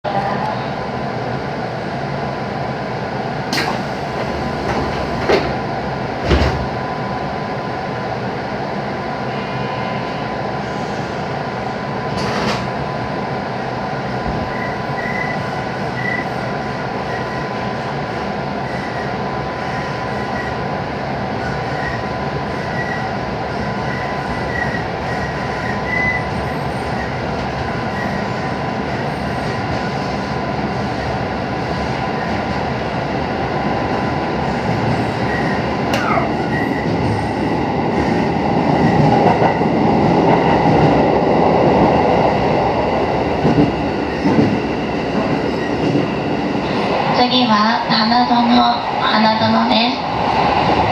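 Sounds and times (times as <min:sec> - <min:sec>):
train wheels rumbling on rails: 0:00.1 - 0:50.9.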